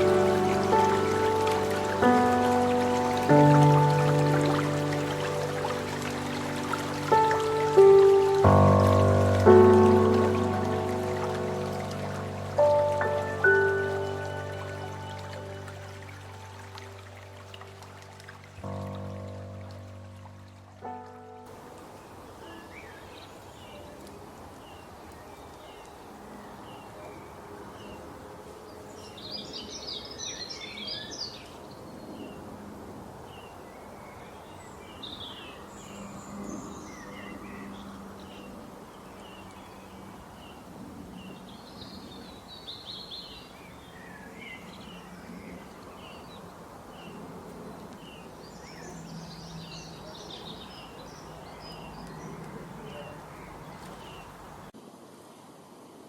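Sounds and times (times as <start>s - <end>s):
small birds chirping and twittering: 0.0s - 19.6s, 20.8s - 54.8s.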